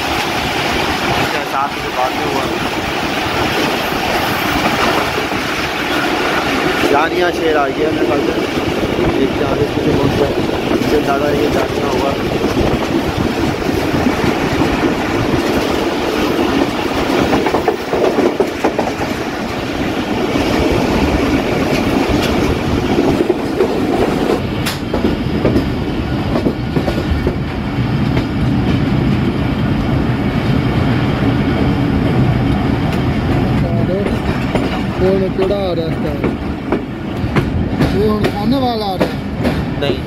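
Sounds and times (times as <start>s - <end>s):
wheels clacking over rail joints: 0.0s - 30.9s, 31.8s - 40.0s
train wheels running on rails: 0.0s - 40.0s.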